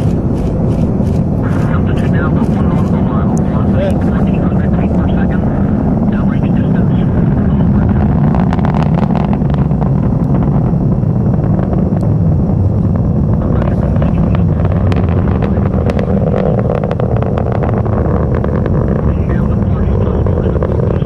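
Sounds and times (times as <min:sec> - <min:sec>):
distant rocket engine rumble: 0:00.0 - 0:21.0.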